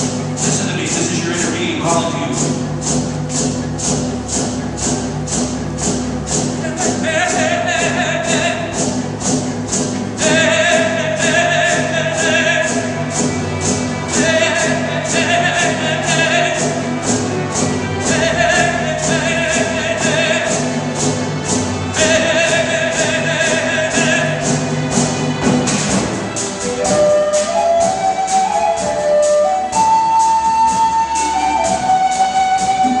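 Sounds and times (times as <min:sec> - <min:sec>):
low sustained strings: 0:00.0 - 0:26.9
lead melody: 0:00.0 - 0:33.0
light percussion beat: 0:00.0 - 0:33.0.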